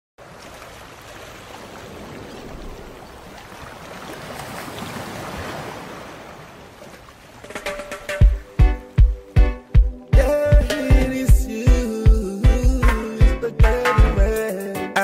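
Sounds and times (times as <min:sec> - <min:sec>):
ocean waves rushing: 0:00.2 - 0:13.2.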